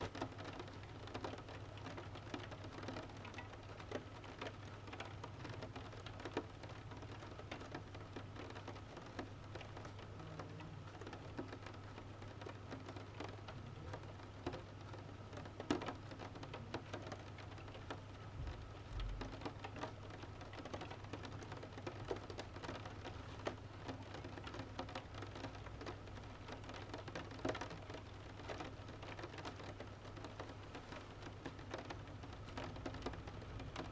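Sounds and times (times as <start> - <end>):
rain falling steadily: 0.0 - 33.9.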